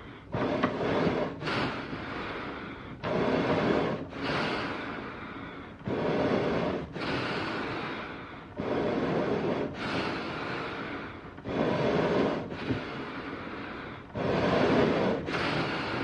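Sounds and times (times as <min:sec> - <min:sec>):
heavy animal breathing: 0:00.0 - 0:16.0.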